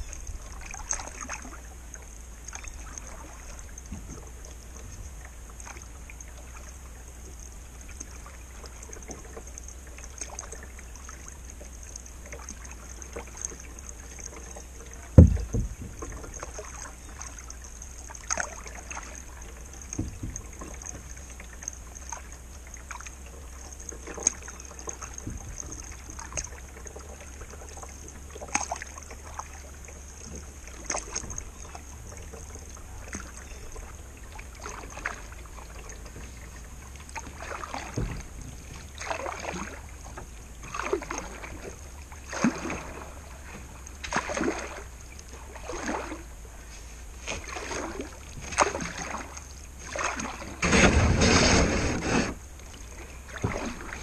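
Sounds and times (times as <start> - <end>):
paddle splashing in water: 0.0 - 54.0.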